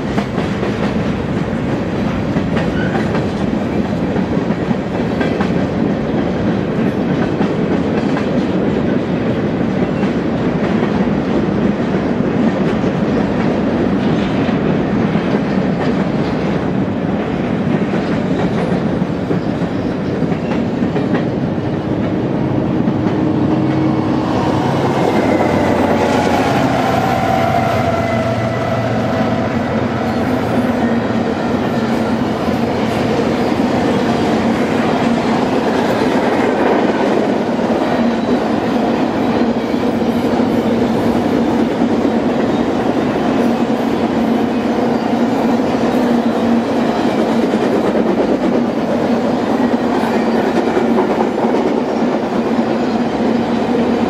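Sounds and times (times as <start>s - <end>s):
clickety-clack of rail joints: 0.0s - 28.2s, 29.9s - 54.0s
train wheels rumbling on rail: 0.0s - 54.0s.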